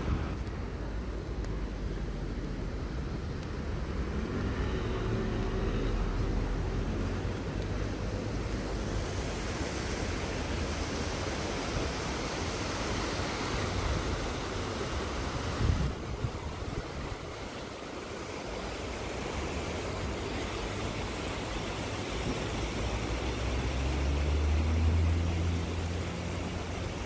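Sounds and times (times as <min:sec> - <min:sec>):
river rushing over stones: 0:00.0 - 0:27.0.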